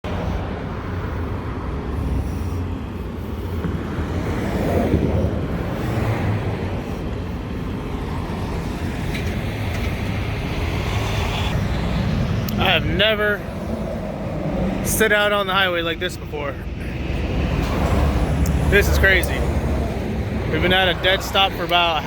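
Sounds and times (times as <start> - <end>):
vehicle engines idling in traffic: 0.1 - 22.0.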